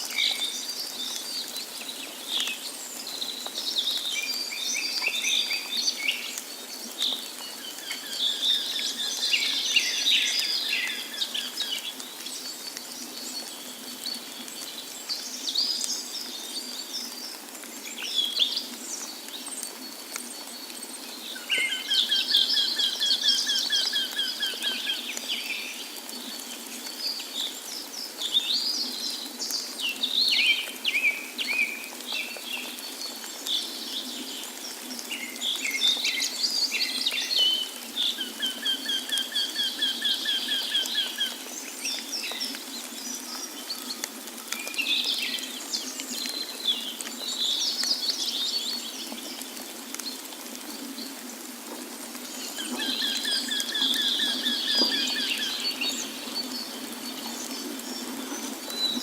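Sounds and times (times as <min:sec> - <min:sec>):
songbirds chirping and singing: 0:00.0 - 0:49.4, 0:52.2 - 0:59.0.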